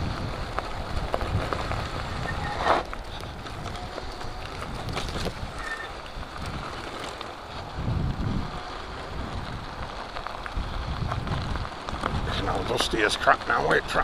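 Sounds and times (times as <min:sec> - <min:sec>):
tyre rumble: 0:00.0 - 0:14.0
wind buffeting microphone: 0:00.0 - 0:14.0.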